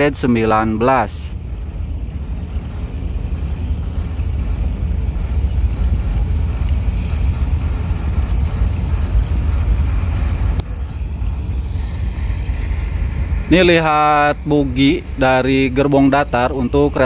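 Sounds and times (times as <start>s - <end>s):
train wheels rumbling: 0.0s - 17.0s
wind on microphone: 0.0s - 17.0s.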